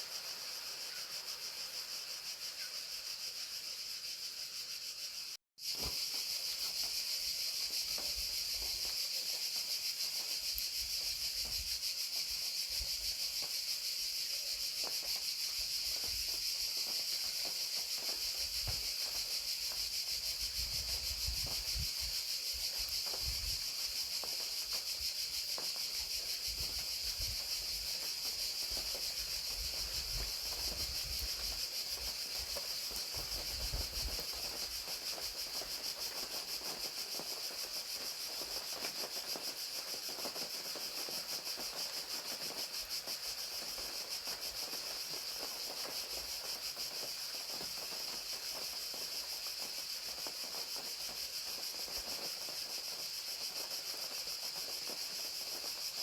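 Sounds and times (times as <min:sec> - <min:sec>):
crickets trilling: 0:00.0 - 0:56.0
light rain patter: 0:05.7 - 0:56.0.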